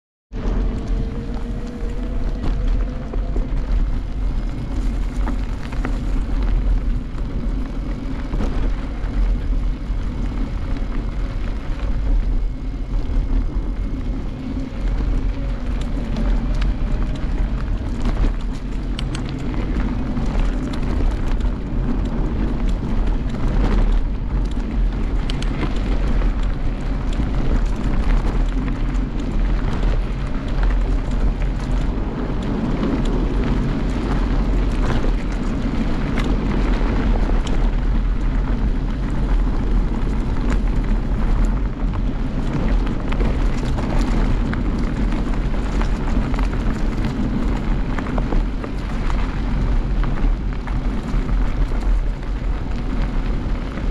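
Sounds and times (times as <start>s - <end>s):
bike tyres rumbling on dirt trail: 0.3s - 53.9s
wind buffeting microphone: 0.3s - 53.9s.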